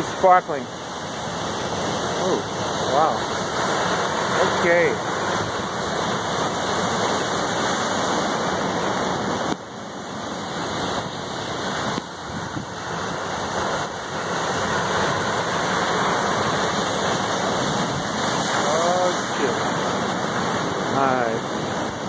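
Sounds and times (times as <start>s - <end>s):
surf breaking over rocks: 0.0s - 22.0s.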